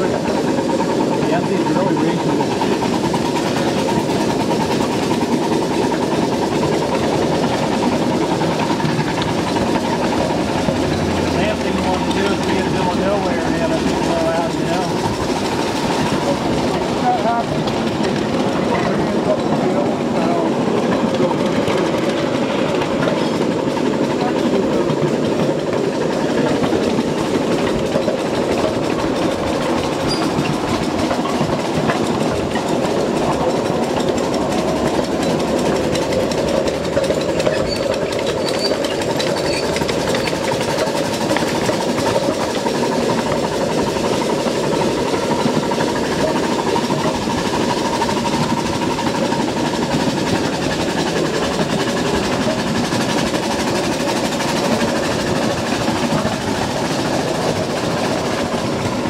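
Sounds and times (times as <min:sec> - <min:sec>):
train wheels rattling on rails: 0:00.0 - 0:59.0.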